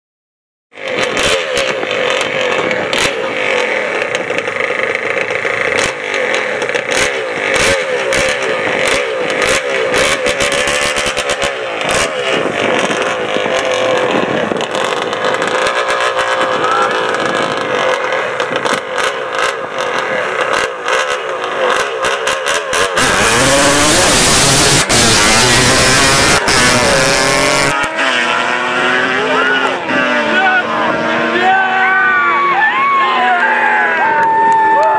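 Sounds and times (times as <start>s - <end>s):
engines idling and revving: 0.7s - 34.9s
engines roaring at full throttle: 0.7s - 34.9s
exhaust crackles: 0.8s - 32.7s.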